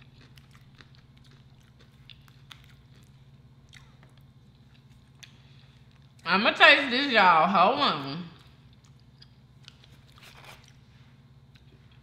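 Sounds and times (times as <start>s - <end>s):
person chewing: 0.0s - 6.3s, 8.4s - 12.0s
steady low hum: 0.0s - 12.0s.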